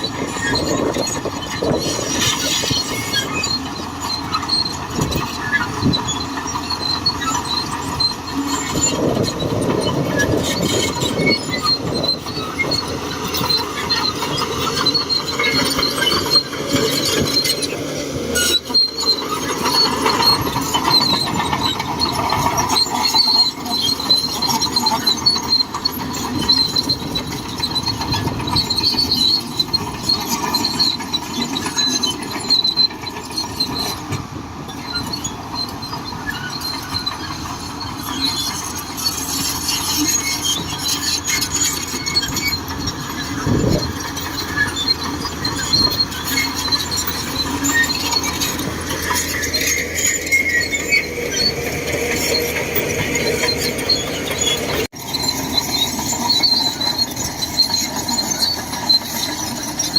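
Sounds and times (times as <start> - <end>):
bulldozer engine running: 0.0 - 59.9
steel tracks squealing and clanking: 0.0 - 59.9.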